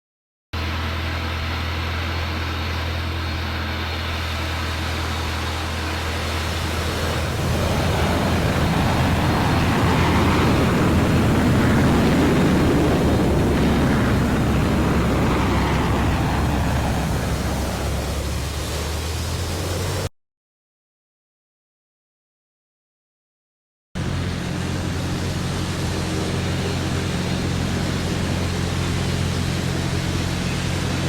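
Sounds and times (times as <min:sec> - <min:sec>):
aircraft engine rumble: 0:00.6 - 0:20.1, 0:24.0 - 0:31.0.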